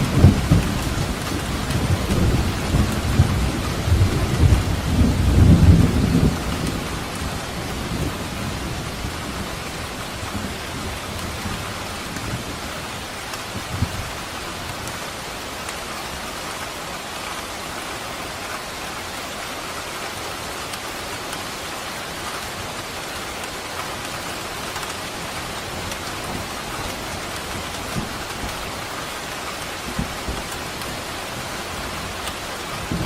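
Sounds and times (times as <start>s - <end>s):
rain on hard surfaces: 0.0s - 33.0s.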